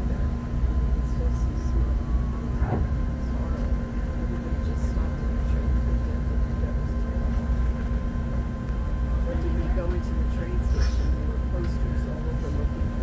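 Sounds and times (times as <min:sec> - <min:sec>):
constant hum: 0:00.0 - 0:13.0
train rumbling at speed: 0:00.0 - 0:13.0.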